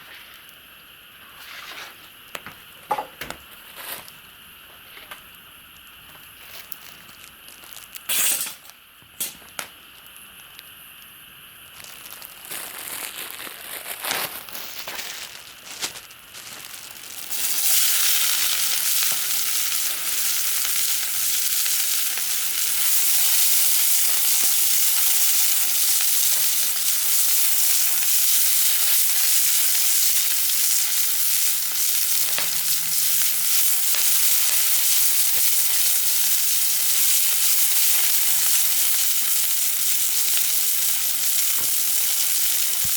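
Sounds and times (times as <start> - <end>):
food sizzling in frying pan: 0.0 - 42.9.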